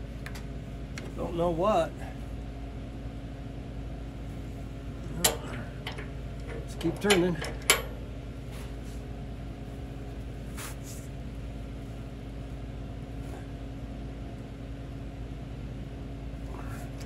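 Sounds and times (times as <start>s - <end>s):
workshop hum: 0.0s - 17.0s.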